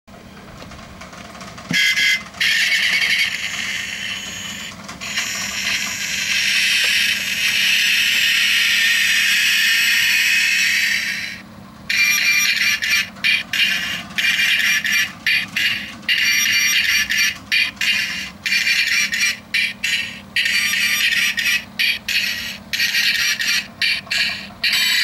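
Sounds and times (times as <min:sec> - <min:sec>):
toy engine start and revving effect: 0:01.7 - 0:25.0.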